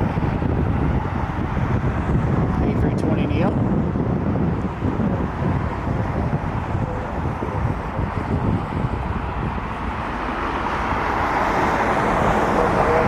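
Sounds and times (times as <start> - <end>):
jet engines whine and rumble: 0.0 - 13.0
wind buffeting microphone: 0.0 - 13.0.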